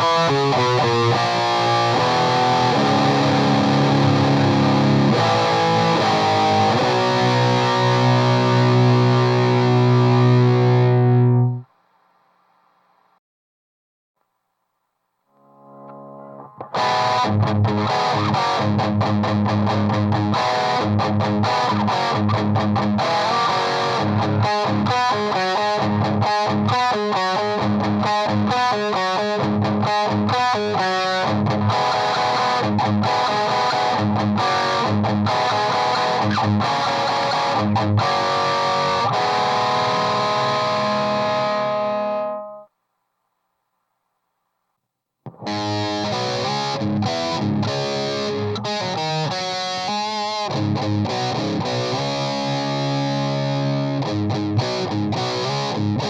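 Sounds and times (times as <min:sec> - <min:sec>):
distorted electric guitar riffs: 0:00.0 - 0:11.7, 0:15.4 - 0:42.7, 0:45.3 - 0:56.0.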